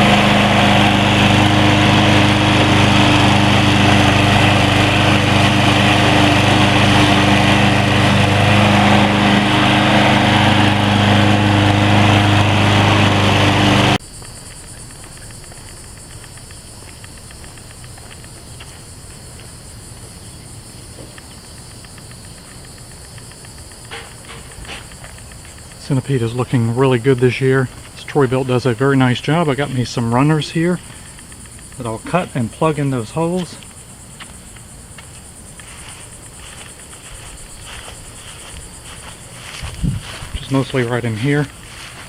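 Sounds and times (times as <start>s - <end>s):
lawn mower engine running: 0.0s - 42.0s
crickets droning: 0.1s - 42.0s.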